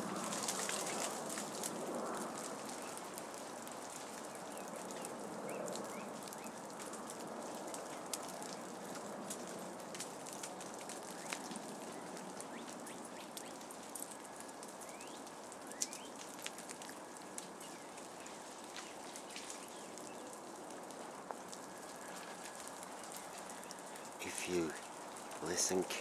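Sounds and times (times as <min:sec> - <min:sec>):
meltwater dripping: 0:00.1 - 0:26.0.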